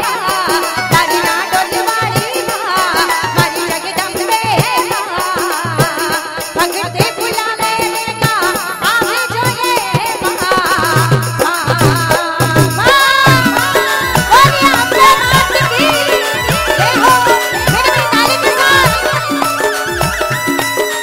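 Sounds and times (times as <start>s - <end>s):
deep drum beats: 0.0s - 21.0s
woman singing: 0.0s - 21.0s.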